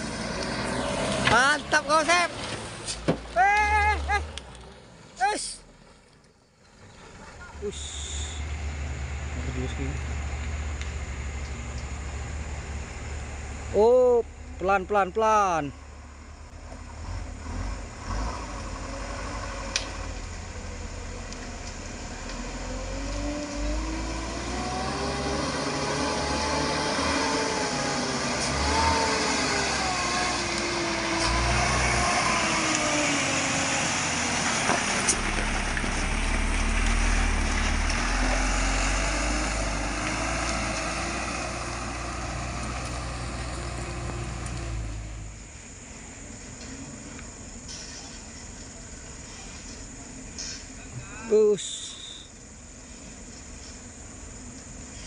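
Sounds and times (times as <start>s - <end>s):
truck diesel engine labouring: 0.0s - 6.1s, 6.7s - 55.0s.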